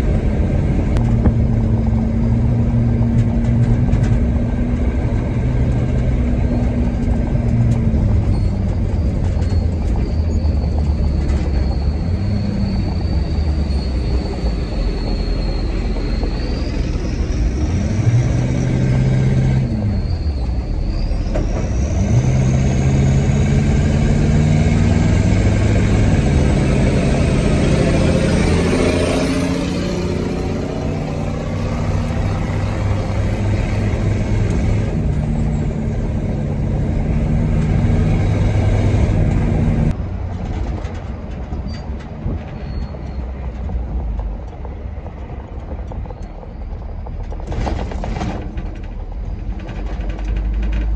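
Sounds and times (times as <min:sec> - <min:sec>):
truck engine running: 0:00.0 - 0:42.5
road rumble: 0:00.0 - 0:50.9.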